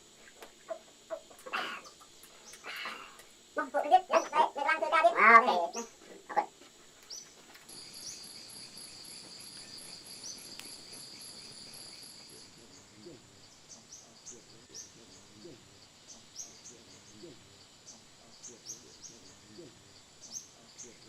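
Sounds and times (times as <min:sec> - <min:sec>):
high insect trill: 0:00.0 - 0:21.0
insects chirping: 0:00.0 - 0:21.0.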